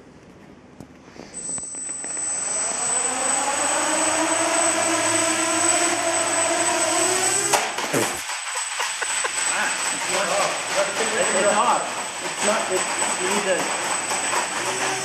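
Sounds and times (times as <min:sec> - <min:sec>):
thin high whine: 0:01.1 - 0:15.0
drone propellers whirring: 0:01.4 - 0:15.0.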